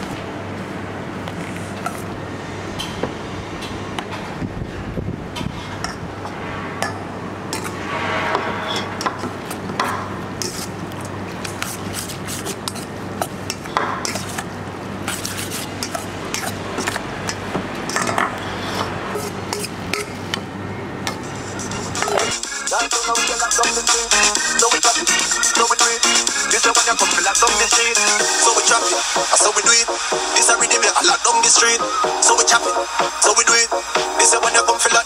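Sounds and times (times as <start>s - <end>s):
steady low hum: 0.0s - 34.8s.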